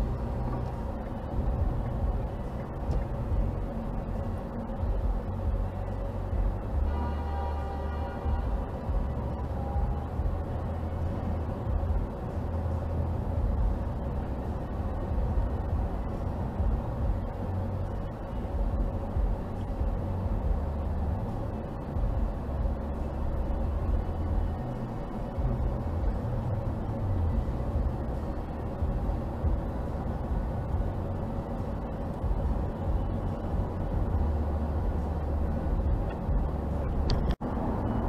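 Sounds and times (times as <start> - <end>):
car cabin road and engine rumble: 0.0 - 38.0.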